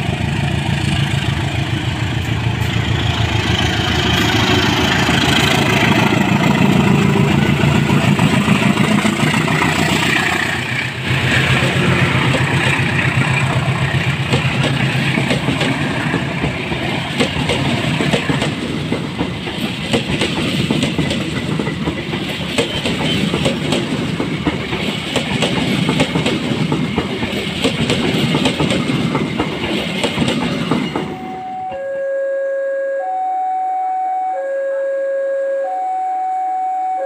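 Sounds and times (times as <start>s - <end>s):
train coaches rolling past: 0.0s - 31.8s.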